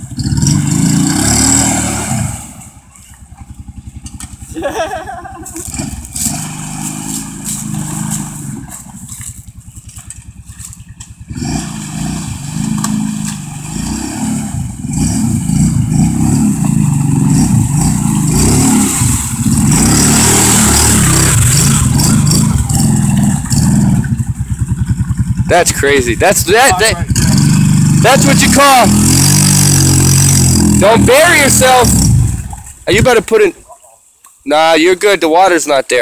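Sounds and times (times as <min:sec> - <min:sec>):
atv engine revving: 0:00.0 - 0:33.6.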